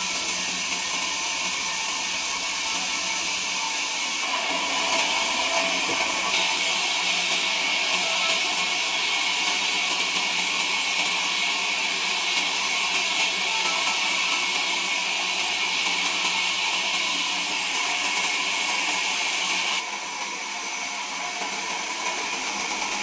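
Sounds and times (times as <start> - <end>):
hissing machine noise: 0.0 - 23.0.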